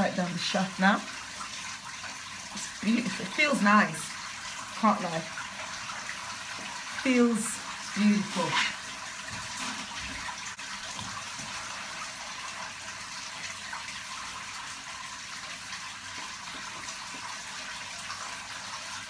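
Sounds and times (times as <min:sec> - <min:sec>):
shower water running: 0:00.0 - 0:19.0.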